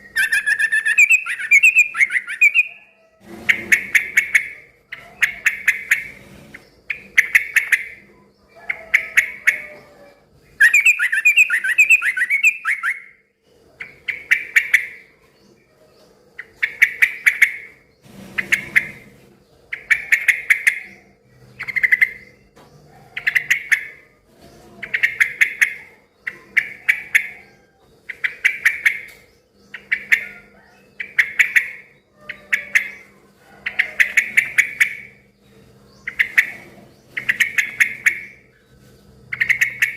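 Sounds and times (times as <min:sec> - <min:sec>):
bulbul singing: 0:00.0 - 0:17.9, 0:24.8 - 0:39.9.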